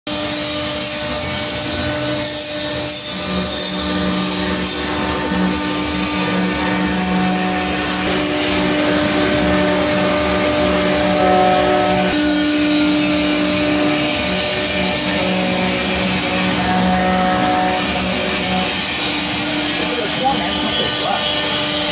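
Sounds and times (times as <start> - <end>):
router spindle whine: 0.1 - 21.9.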